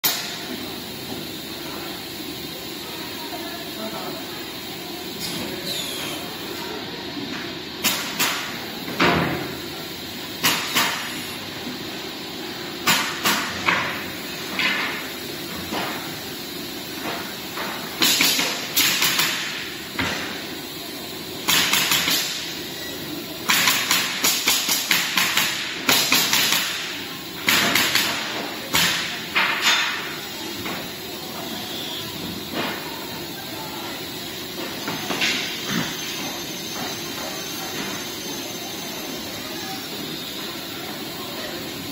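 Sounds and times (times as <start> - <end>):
steady background hum: 0.0 - 41.9.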